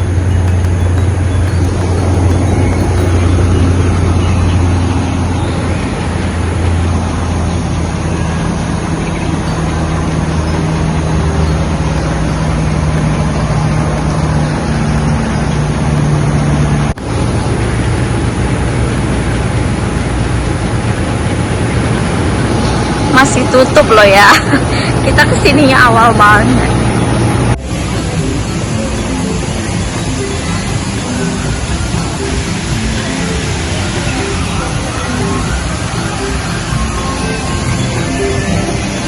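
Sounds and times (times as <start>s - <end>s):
motor vehicle rumble: 0.0s - 39.0s.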